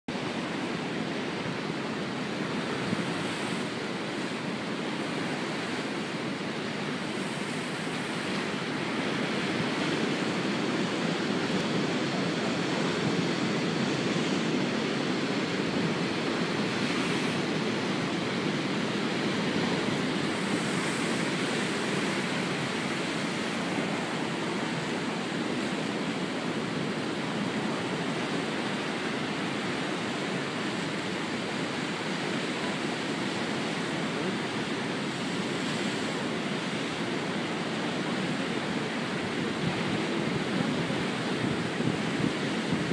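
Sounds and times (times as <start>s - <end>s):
storm surf crashing: 0.1s - 42.9s.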